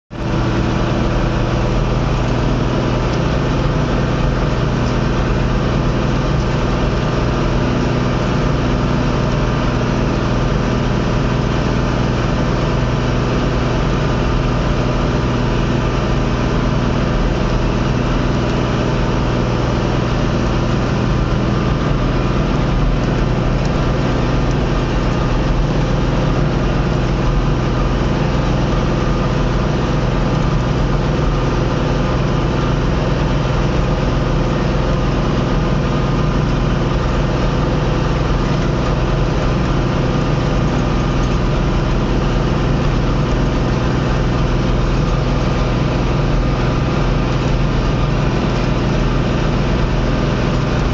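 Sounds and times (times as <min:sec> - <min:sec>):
tractor diesel engine under load: 0:00.1 - 0:50.9.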